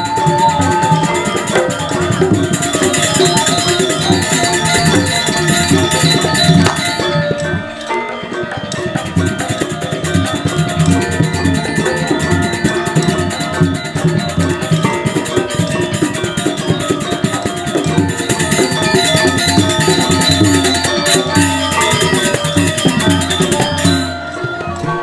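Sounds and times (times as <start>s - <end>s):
drums: 0.0s - 25.0s
metallophones and gongs ringing: 0.0s - 25.0s.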